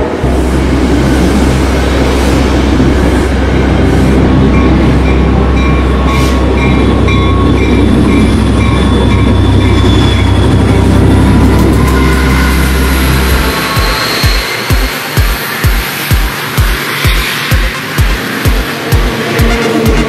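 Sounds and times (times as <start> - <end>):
diesel train rumbling past: 0.0 - 20.0.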